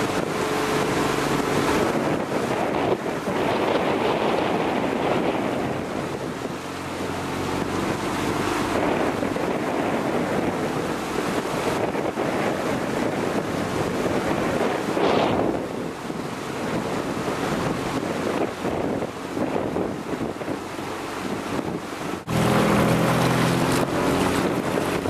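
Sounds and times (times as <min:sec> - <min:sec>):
low motor hum: 0:00.0 - 0:25.0
water rushing past boat: 0:00.0 - 0:25.0
wind buffeting microphone: 0:00.0 - 0:25.0.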